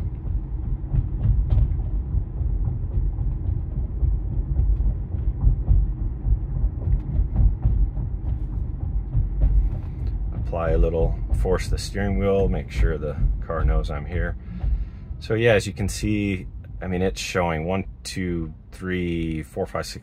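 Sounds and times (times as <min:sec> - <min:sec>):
road and tyre rumble: 0:00.0 - 0:20.0.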